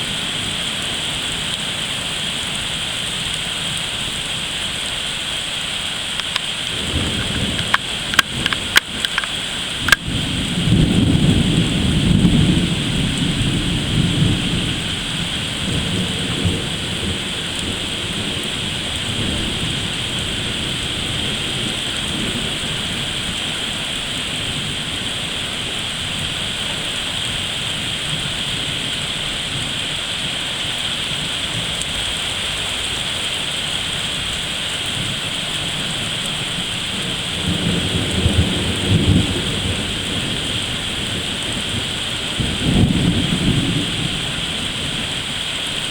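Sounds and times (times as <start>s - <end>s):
heavy rain: 0.0s - 45.9s
thunder rumbling: 6.2s - 45.9s.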